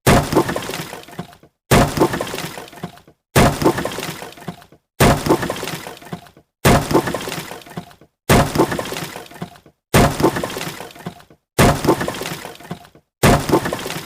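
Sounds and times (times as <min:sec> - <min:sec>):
wood smashing and splintering: 0:00.0 - 0:14.0.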